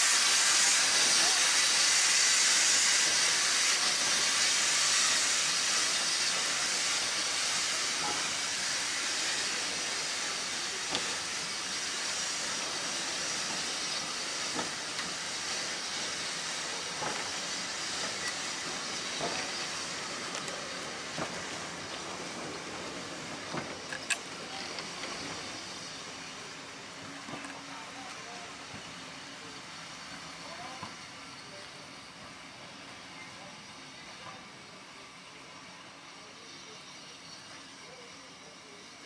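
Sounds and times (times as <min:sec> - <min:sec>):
steam hissing from locomotive: 0:00.0 - 0:39.0.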